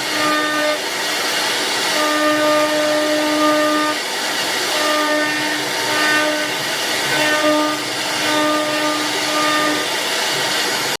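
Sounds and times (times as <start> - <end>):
constant-pitched machine whine: 0.0 - 11.0
machine hiss: 0.0 - 11.0.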